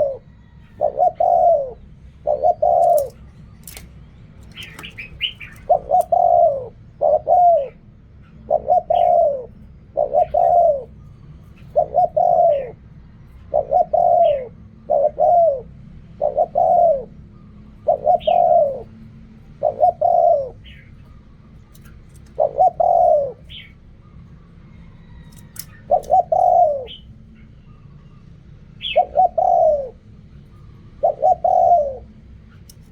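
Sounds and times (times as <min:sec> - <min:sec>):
dove cooing: 0:00.0 - 0:21.0, 0:21.7 - 0:27.5, 0:28.8 - 0:32.9.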